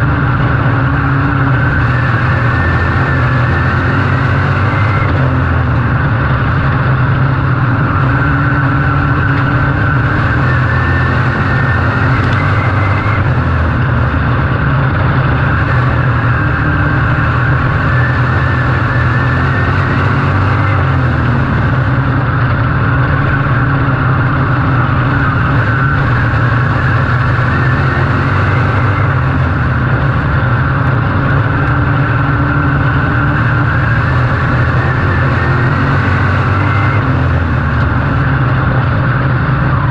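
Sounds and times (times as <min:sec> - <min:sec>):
race engine running hard: 0:00.0 - 0:39.9.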